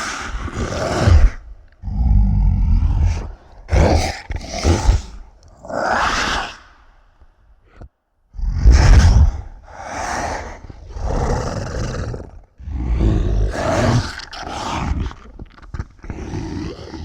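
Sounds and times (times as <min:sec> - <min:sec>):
monster breathing and snarling: 0:00.0 - 0:06.8, 0:07.7 - 0:17.0.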